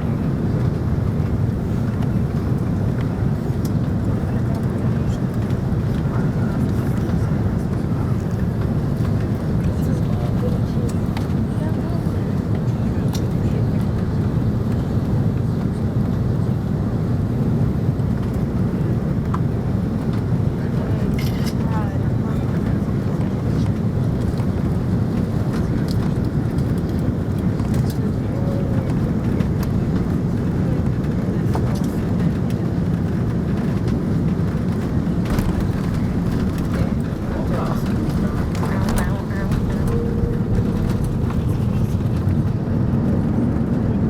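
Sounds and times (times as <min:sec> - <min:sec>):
airliner low rumble: 0:00.0 - 0:44.0.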